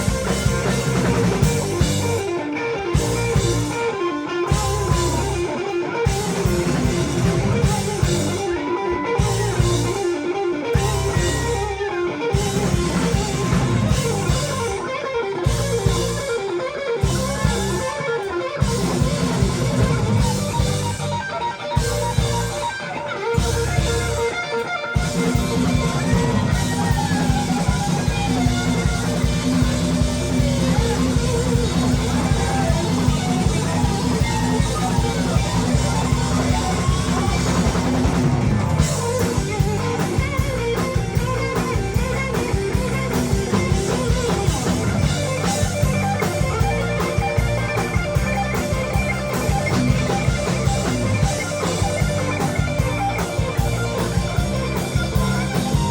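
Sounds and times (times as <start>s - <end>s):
bass: 0.0s - 55.9s
drums: 0.0s - 55.9s
electric lead guitar: 0.0s - 55.9s.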